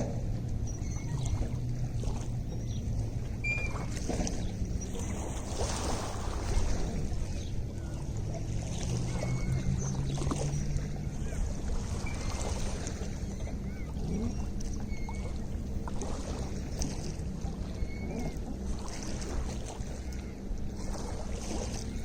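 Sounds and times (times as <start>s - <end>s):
lake water lapping: 0.0s - 22.0s
low hum: 0.0s - 22.0s.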